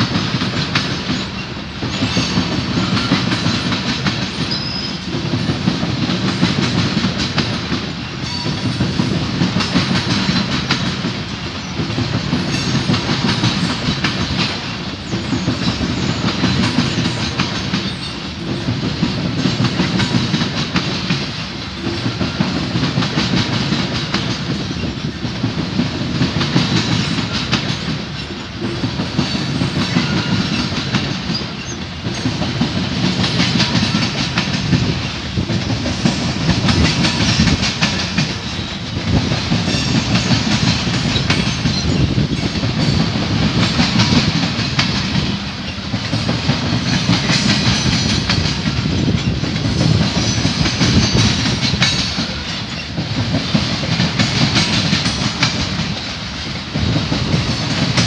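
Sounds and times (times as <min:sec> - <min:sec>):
freight train rumble: 0:00.0 - 0:58.0
train wheels clicking over rail joints: 0:00.0 - 0:58.0.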